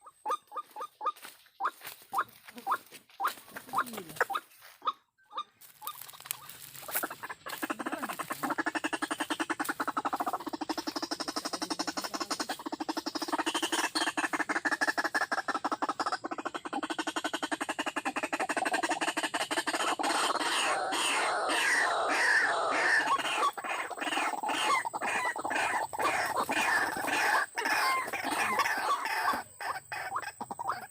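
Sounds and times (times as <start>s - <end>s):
waterhen calling: 0.0s - 30.9s.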